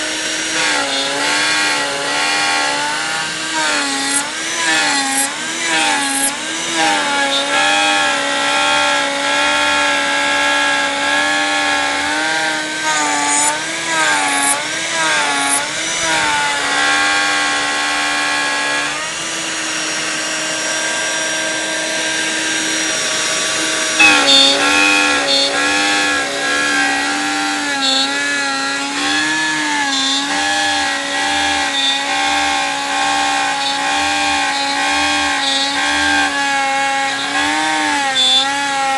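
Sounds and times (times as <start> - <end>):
router motor cutting with whine: 0.0 - 38.9.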